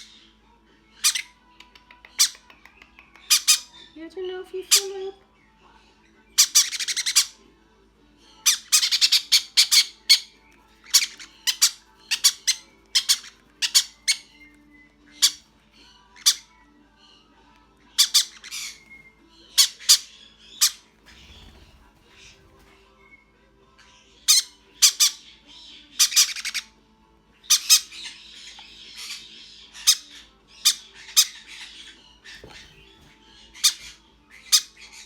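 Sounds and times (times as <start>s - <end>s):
parrot chicks squawking: 0.0s - 4.0s, 6.0s - 7.5s, 8.2s - 22.8s, 23.8s - 26.8s, 27.4s - 35.0s.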